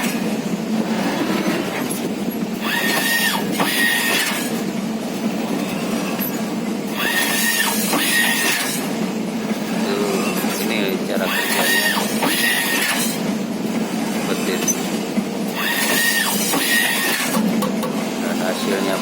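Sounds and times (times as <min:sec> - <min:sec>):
stitching machine humming: 0:00.0 - 0:19.0.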